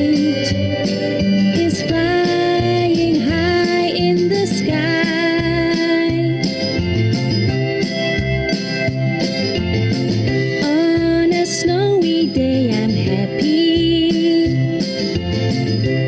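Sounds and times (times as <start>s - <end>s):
children's song instrumental music: 0.0s - 16.0s.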